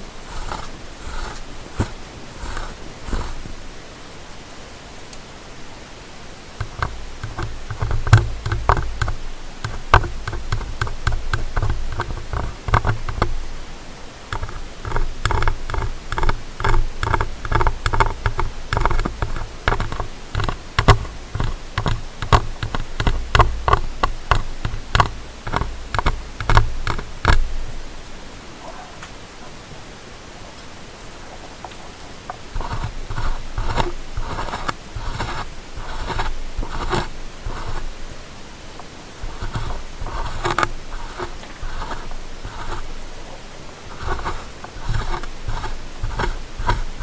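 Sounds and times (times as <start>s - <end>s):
ear-cleaning tool scraping: 0.0s - 3.8s, 6.6s - 27.7s, 32.2s - 47.0s.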